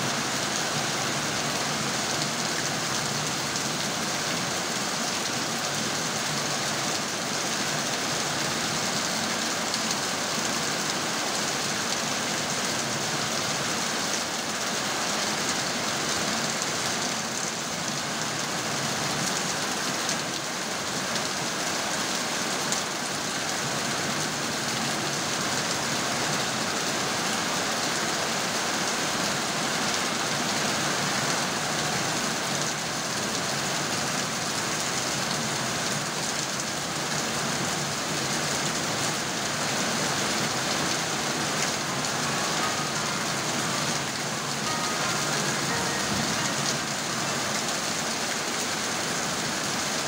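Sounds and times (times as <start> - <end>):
heavy rain: 0.0 - 50.0.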